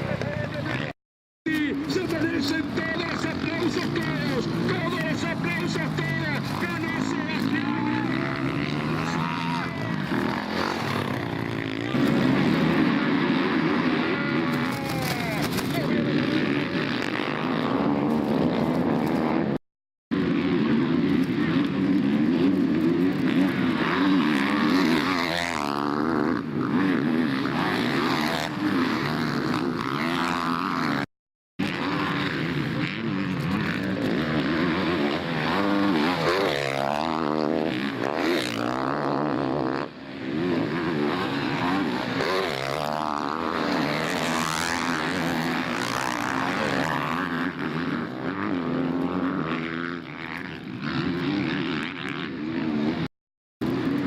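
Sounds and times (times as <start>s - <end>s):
motocross bikes revving: 0.0s - 54.0s.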